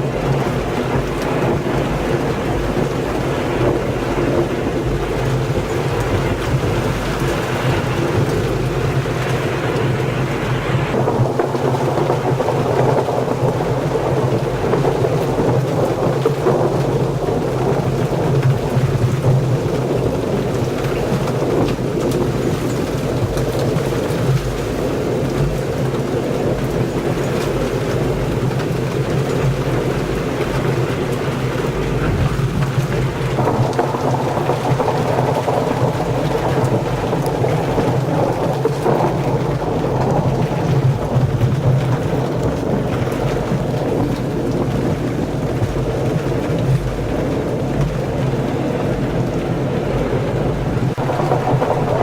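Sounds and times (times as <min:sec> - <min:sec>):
heavy rain pouring: 0:00.0 - 0:52.0
thunder rumbling: 0:00.0 - 0:52.0.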